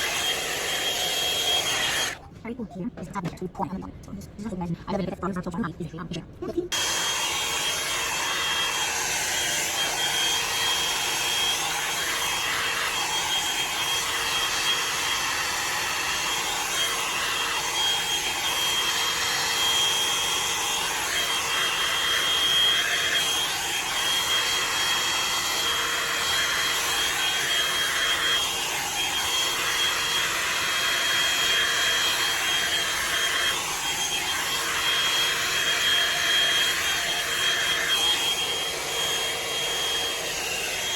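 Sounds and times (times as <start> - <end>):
blow-dryer blowing air: 0.0 - 2.2, 6.7 - 40.9.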